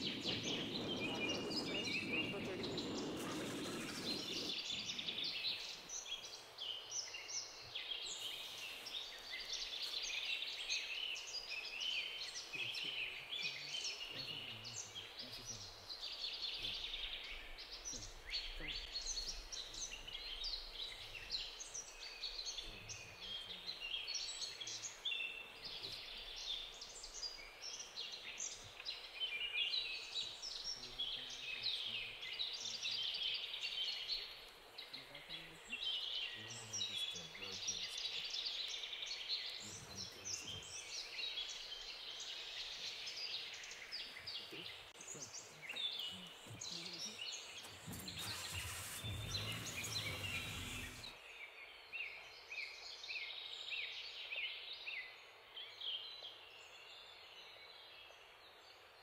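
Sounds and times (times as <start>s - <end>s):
faint outdoor background noise: 0.0s - 59.0s
small birds chirping: 0.0s - 59.0s.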